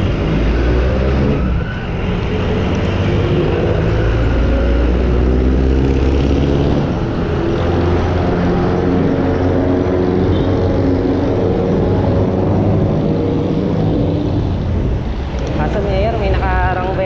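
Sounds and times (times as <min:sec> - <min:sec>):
engine hum: 0:00.0 - 0:17.0
road traffic rumble: 0:00.0 - 0:17.0.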